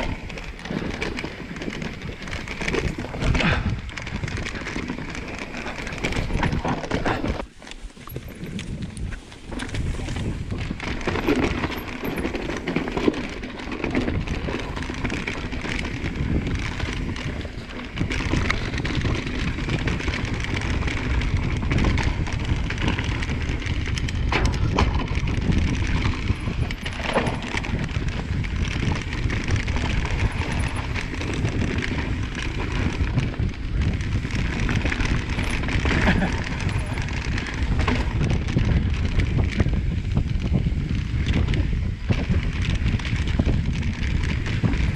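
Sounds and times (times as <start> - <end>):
bike clattering over rough ground: 0.0 - 44.9
bike tyres rumbling on dirt: 0.0 - 44.9
wind on microphone: 0.0 - 44.9.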